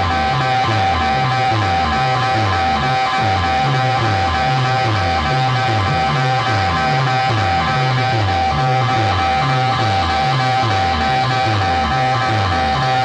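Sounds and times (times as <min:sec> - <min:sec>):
loud music over loudspeakers: 0:00.0 - 0:13.0.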